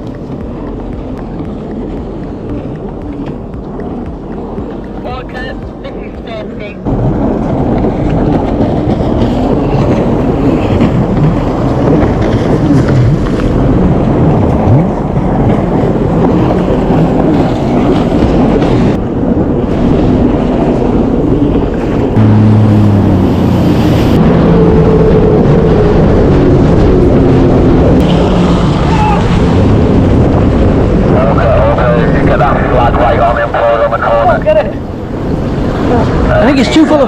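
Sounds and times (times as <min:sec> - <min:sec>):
jet ski engine running: 0:00.0 - 0:36.8
rushing water: 0:00.0 - 0:37.0
wind noise: 0:00.0 - 0:37.0.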